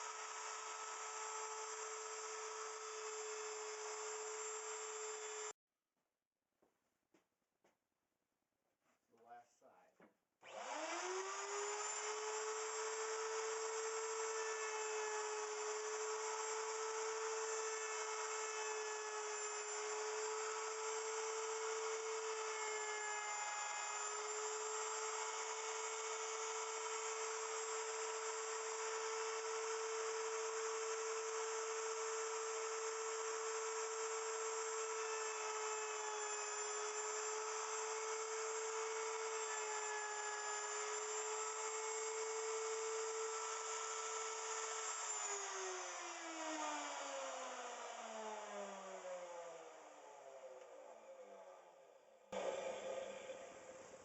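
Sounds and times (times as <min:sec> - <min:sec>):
wood router high whine: 0:00.0 - 0:05.5, 0:10.4 - 0:51.2, 0:52.4 - 0:54.0.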